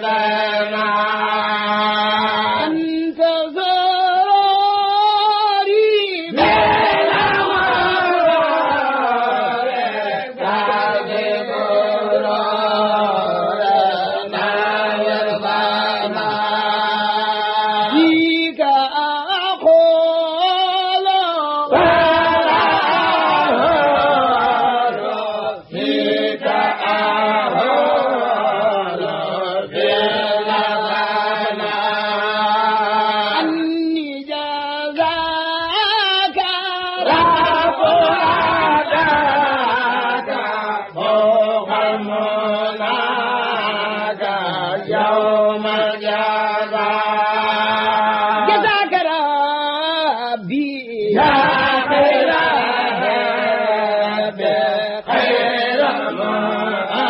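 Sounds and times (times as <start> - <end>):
person chanting devotional poem: 0.0 - 57.0.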